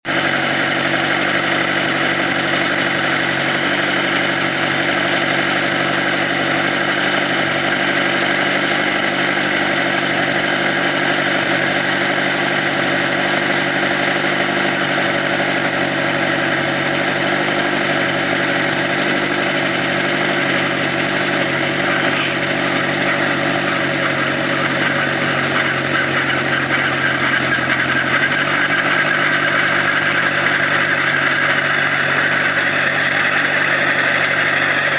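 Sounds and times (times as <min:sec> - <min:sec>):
helicopter engine and rotors drone: 0:00.1 - 0:34.9.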